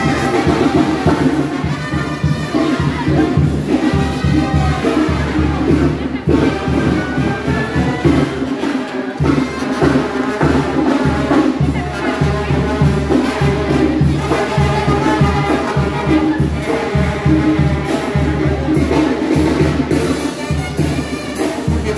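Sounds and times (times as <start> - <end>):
brass band playing dance music: 0.0 - 21.9
crowd chatter: 0.0 - 21.9.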